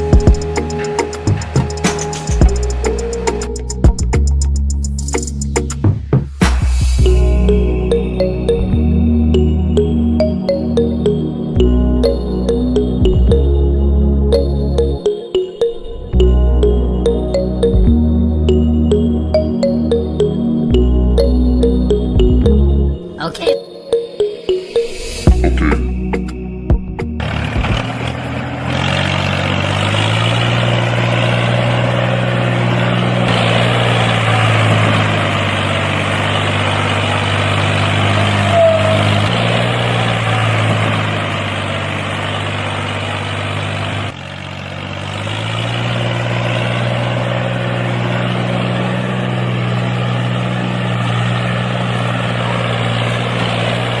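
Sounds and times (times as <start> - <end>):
engine running: 0.0 - 23.2, 23.9 - 54.0.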